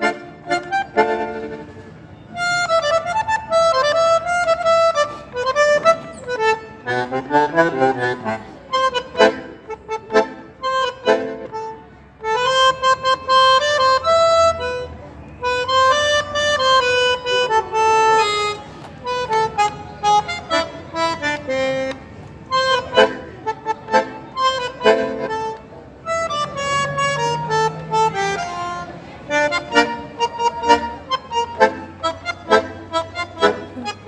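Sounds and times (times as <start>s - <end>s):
bandoneon playing: 0.0s - 34.0s.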